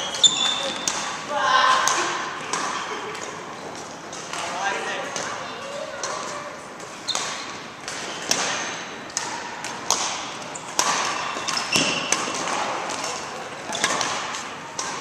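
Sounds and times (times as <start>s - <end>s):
racket hitting shuttlecock: 0.2s - 15.0s.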